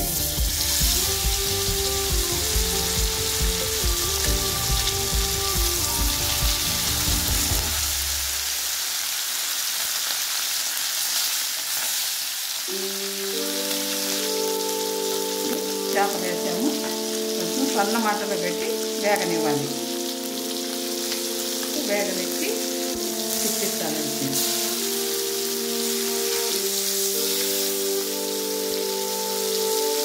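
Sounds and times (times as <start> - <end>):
fish sizzling in hot oil: 0.0 - 30.0.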